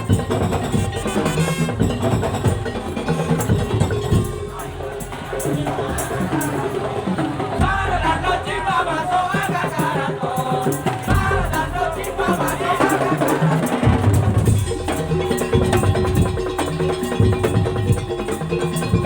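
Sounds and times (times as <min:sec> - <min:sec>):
wooden slit drums beating: 0:00.0 - 0:19.0.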